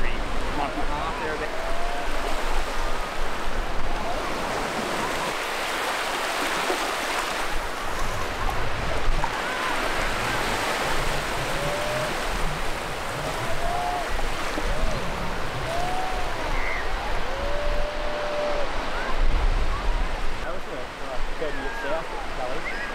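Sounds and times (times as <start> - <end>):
small waves breaking: 0.0 - 22.9
whitewash rushing in shallow water: 0.0 - 22.9.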